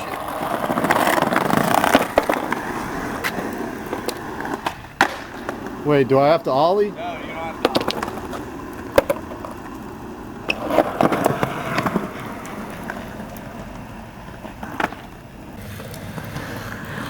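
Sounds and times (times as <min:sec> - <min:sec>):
skateboard knocks and scrapes: 0:00.0 - 0:05.9, 0:07.5 - 0:17.0
skateboard clacking: 0:00.0 - 0:17.0
skateboard wheels rolling on pavement: 0:00.0 - 0:17.0.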